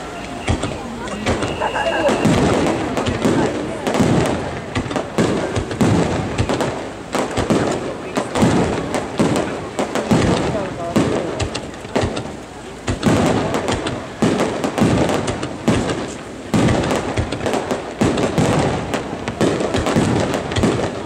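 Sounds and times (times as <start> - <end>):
firework shells bursting: 0.0 - 21.0
crackling firework pops: 0.2 - 21.0.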